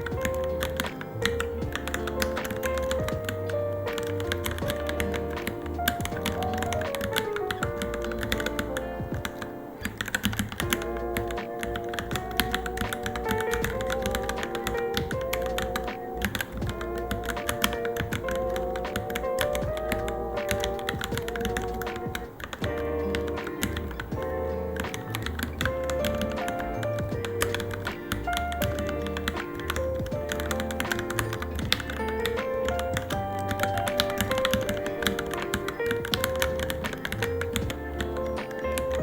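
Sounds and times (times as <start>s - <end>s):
background music: 0.0s - 39.0s
mechanical keyboard typing: 0.0s - 39.0s.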